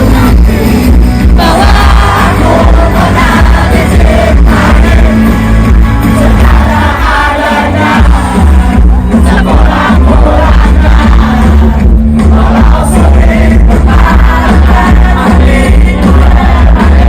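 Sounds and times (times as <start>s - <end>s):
pop music with singing: 0.0s - 17.0s.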